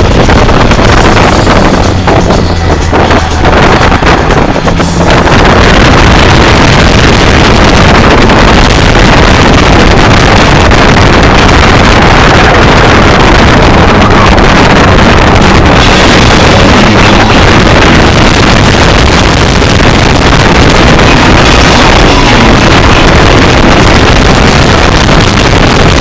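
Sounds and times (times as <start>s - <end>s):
car engine running hard: 0.0s - 26.0s
wind and road noise: 0.0s - 26.0s.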